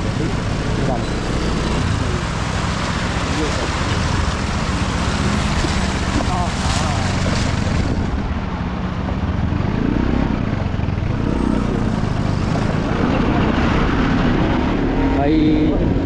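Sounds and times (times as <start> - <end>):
motorcycle engine revving: 0.0 - 8.3, 9.3 - 16.0
steady rushing noise: 0.0 - 16.0.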